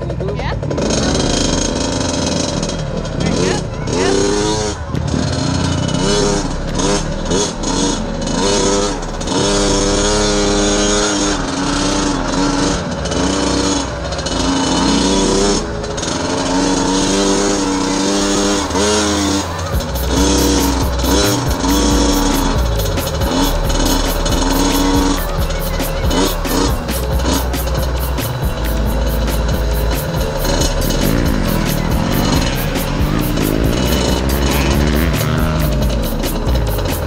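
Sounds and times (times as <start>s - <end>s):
dirt bike engine revving: 0.0s - 37.0s
wind and riding noise: 0.0s - 37.0s.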